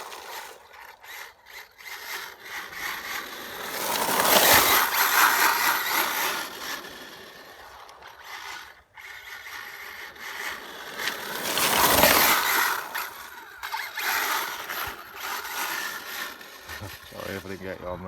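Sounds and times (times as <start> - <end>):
toy car electric motor whining: 0.0 - 18.0
tyres on wet tarmac: 0.0 - 18.0.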